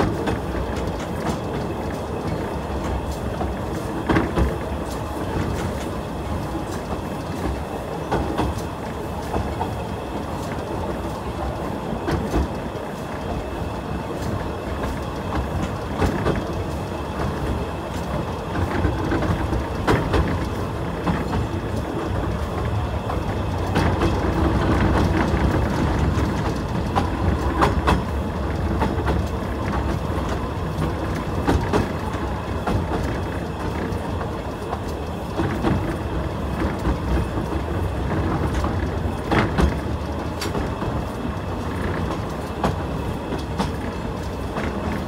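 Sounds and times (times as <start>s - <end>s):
train wheels rumbling on track: 0.0s - 45.0s
wheels clicking over rail joints: 0.0s - 45.0s.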